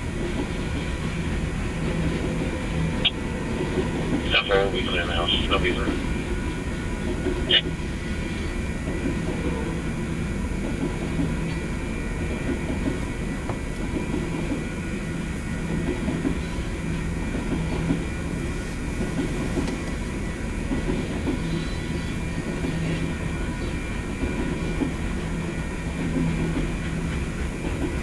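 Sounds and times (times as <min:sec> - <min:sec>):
freight train wheels on rails: 0:00.0 - 0:28.0.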